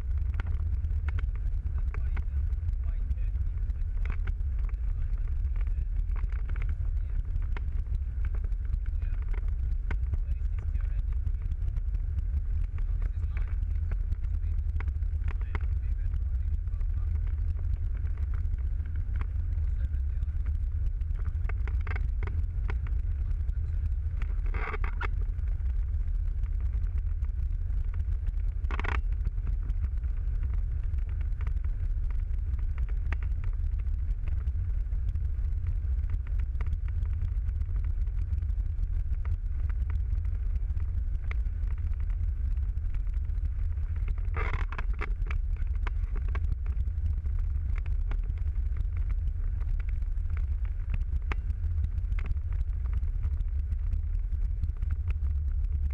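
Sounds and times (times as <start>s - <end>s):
engine and tyre rumble: 0.0s - 55.9s
faint ticks: 0.0s - 55.9s.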